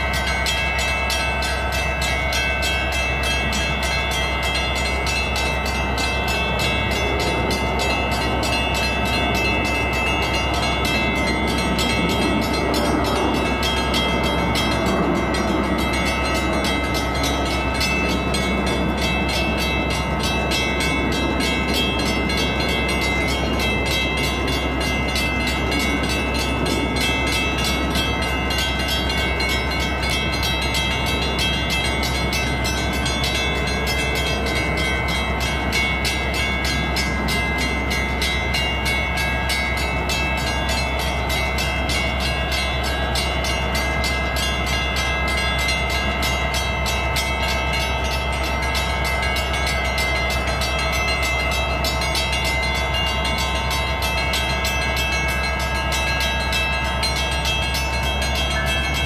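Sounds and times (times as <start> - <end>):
diesel locomotive engine rumbling: 0.0 - 59.0.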